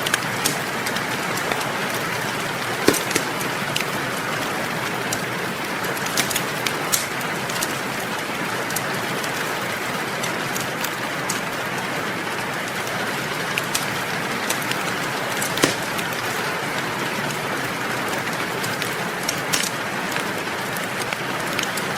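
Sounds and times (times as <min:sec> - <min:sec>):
steady rain: 0:00.0 - 0:21.9
wood fire crackling and popping: 0:00.0 - 0:21.9.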